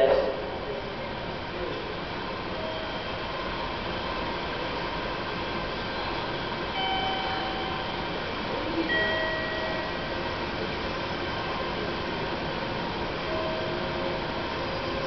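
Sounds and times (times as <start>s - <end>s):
station platform background noise: 0.0s - 15.0s
train approaching: 0.0s - 15.0s.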